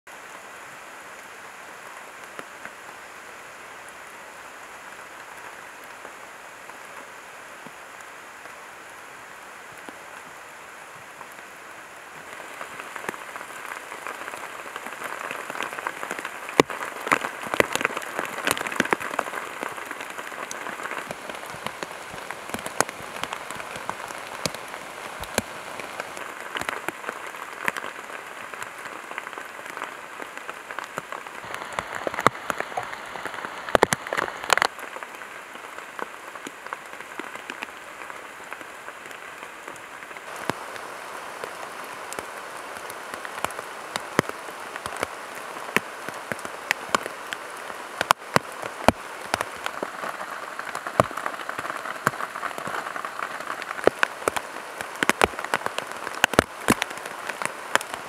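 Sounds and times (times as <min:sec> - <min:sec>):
rain falling in forest: 0:00.0 - 0:58.0.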